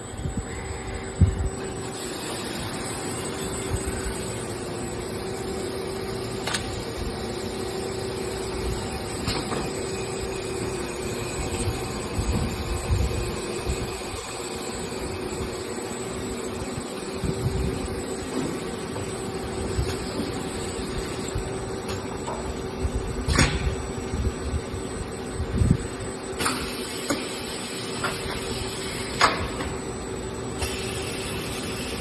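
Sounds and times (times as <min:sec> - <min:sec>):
machine tool humming: 0:00.0 - 0:32.0.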